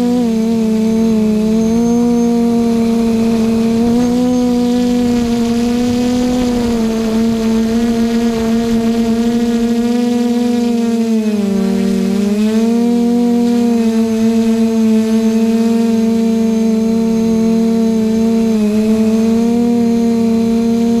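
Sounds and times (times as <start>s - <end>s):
quadcopter propellers buzzing: 0.0s - 21.0s.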